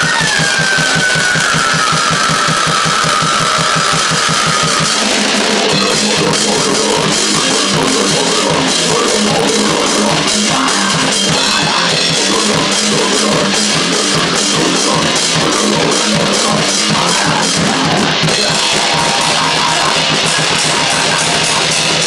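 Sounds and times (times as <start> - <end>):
distorted guitar noise: 0.0 - 22.0
fast drums: 0.0 - 22.0.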